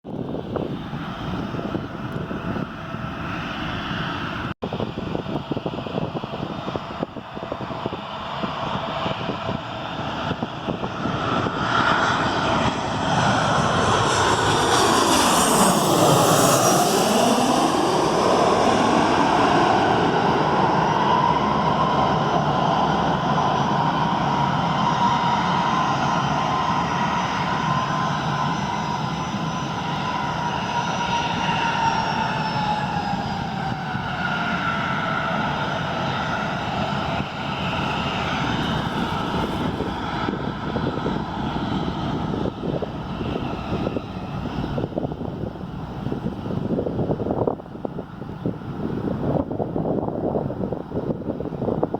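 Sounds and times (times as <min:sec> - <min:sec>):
wind buffeting microphone: 0:00.0 - 0:51.9
jet airliner passing: 0:00.1 - 0:51.9.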